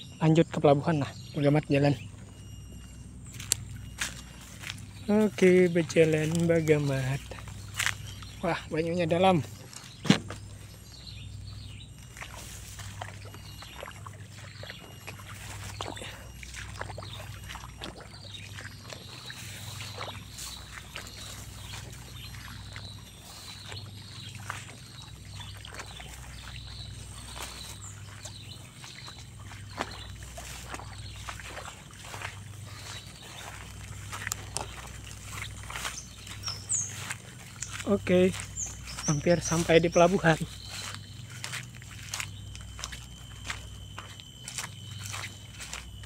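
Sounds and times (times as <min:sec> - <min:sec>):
water sloshing: 0:00.8 - 0:46.0
footsteps on wooden boardwalk: 0:02.0 - 0:46.0.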